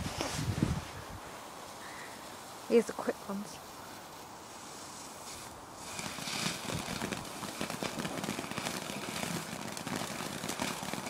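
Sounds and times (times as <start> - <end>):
firework hissing and crackling: 0.0 - 11.0.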